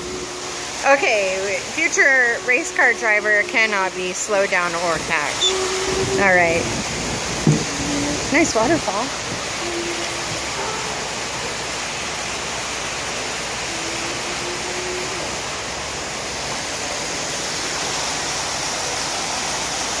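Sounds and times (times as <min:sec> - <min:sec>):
waterfall splashing into pool: 0:00.0 - 0:20.0.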